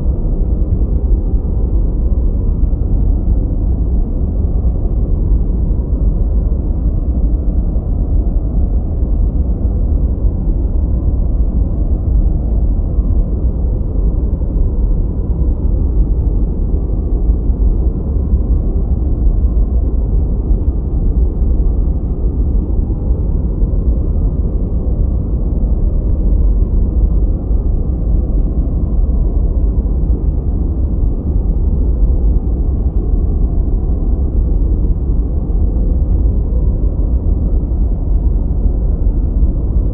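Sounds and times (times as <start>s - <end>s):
deep rumbling brown noise: 0.0s - 39.9s.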